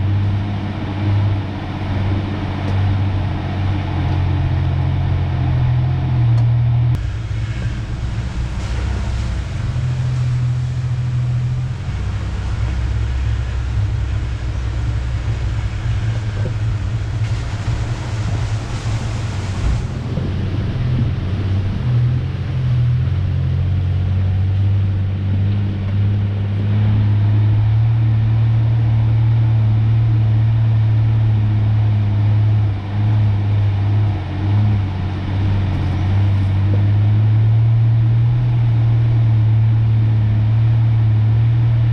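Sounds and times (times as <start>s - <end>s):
pickup truck engine drone: 0.0s - 41.9s.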